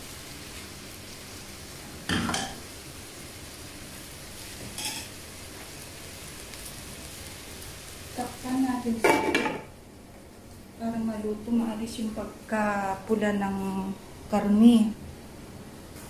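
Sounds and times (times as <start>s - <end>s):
pork sizzling in wok: 0.0s - 16.0s.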